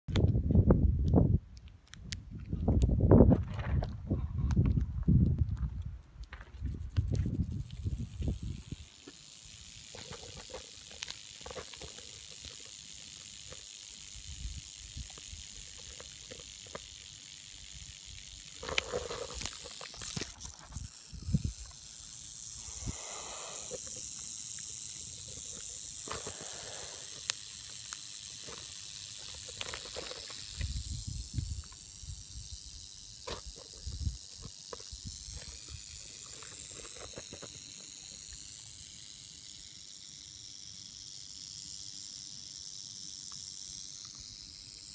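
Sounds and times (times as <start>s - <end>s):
rattlesnake rattling: 5.9s - 44.9s.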